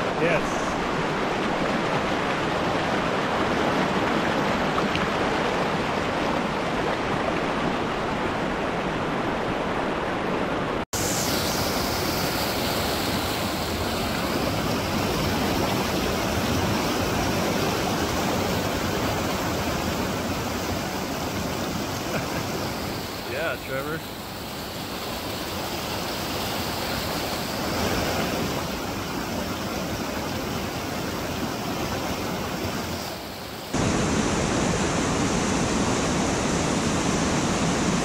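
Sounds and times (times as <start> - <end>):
creek rushing over rocks: 0.0 - 38.0.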